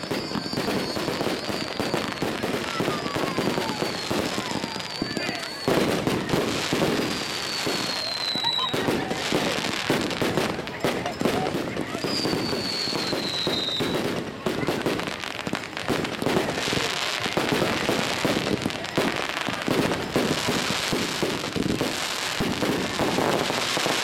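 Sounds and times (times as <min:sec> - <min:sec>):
firework whistle: 0:00.0 - 0:24.0
fireworks crackling and banging: 0:00.0 - 0:24.0.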